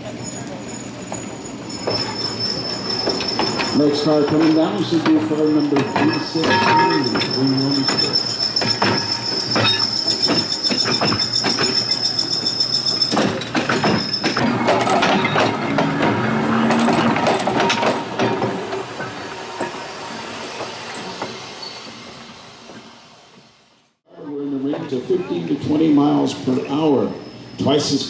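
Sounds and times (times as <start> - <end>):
trolley wheels squealing on rail: 0.0 - 23.7, 25.0 - 28.0
wheels clacking over rail joints: 0.4 - 23.5.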